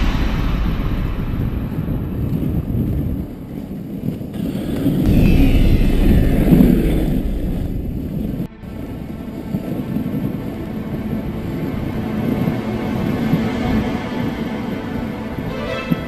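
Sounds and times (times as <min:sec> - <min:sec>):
wind buffeting microphone: 0:00.0 - 0:16.0
sled runners rushing over snow: 0:01.7 - 0:05.1, 0:06.2 - 0:16.0.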